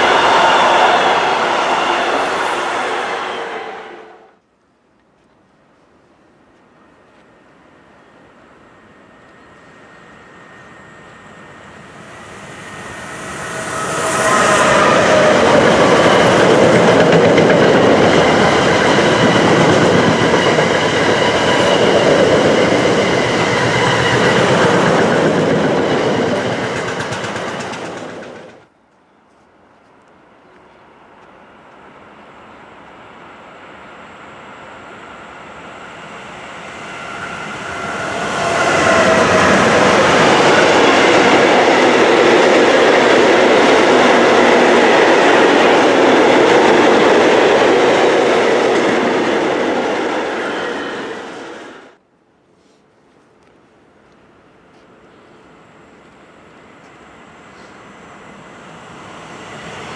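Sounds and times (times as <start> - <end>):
train wheels on rails: 0.0 - 4.2, 5.2 - 52.0
electric locomotives approaching: 0.0 - 4.4, 6.0 - 28.8, 29.6 - 52.0, 53.4 - 59.9
freight train passing: 0.0 - 4.4, 6.0 - 28.8, 30.0 - 52.0, 53.9 - 59.9.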